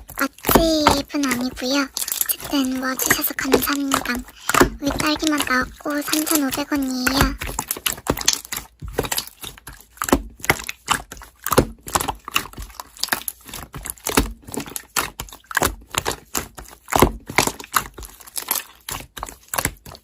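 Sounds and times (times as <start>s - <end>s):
slime squished by hand: 0.0s - 20.0s.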